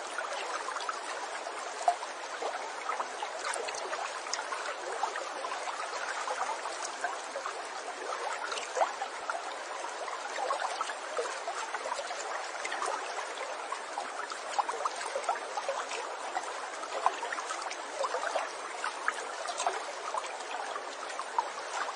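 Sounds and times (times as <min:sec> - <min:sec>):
babbling stream: 0:00.0 - 0:21.9
water splashes and plinks: 0:00.0 - 0:21.9.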